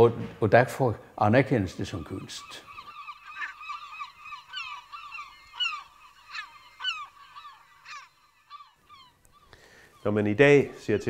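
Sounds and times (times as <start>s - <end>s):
gulls calling: 1.4s - 11.0s.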